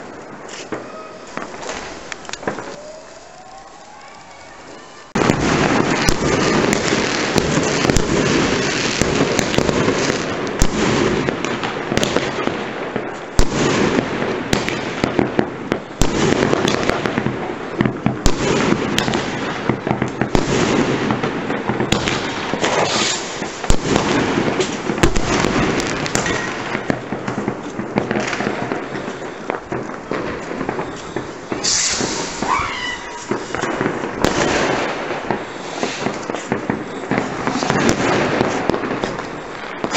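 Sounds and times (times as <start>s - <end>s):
firework whistle: 0.0s - 12.4s, 17.8s - 39.9s
fireworks bangs and crackle: 0.0s - 39.9s.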